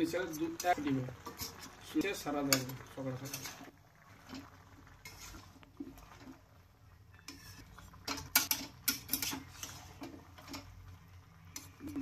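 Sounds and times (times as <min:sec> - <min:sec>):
metal spatula scraping wok: 0:00.1 - 0:06.4, 0:07.0 - 0:12.0.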